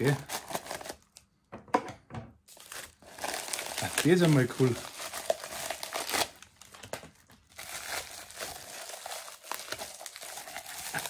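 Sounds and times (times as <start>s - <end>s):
bubble wrap and paper crinkling: 0.0s - 1.2s, 2.5s - 11.0s.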